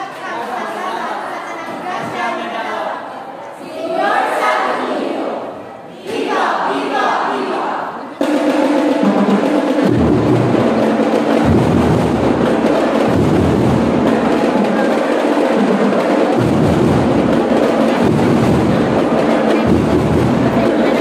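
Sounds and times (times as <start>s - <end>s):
drums beating: 3.9s - 21.0s.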